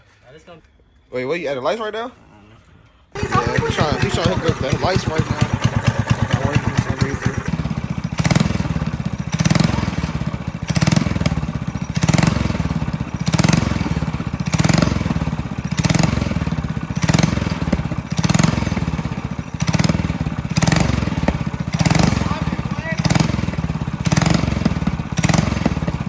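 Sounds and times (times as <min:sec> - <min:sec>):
minibike engine surging: 0:03.2 - 0:26.0.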